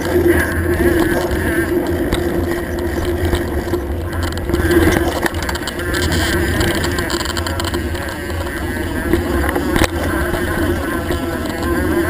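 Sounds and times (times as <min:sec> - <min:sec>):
bike tyres and frame rumbling: 0:00.0 - 0:12.0
scattered clicks: 0:00.0 - 0:12.0.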